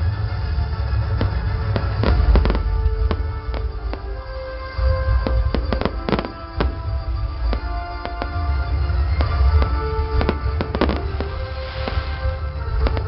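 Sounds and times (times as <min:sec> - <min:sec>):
music with held notes: 0:00.0 - 0:13.0
steady low rumble: 0:00.0 - 0:13.0.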